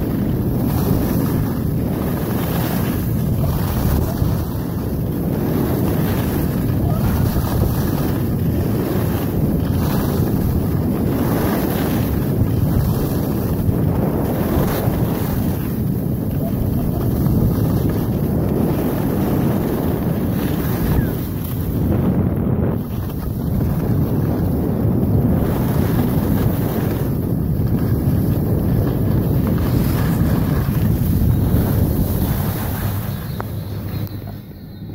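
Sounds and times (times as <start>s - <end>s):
skis sliding on snow: 0.0s - 34.6s
wind buffeting microphone: 0.0s - 34.9s.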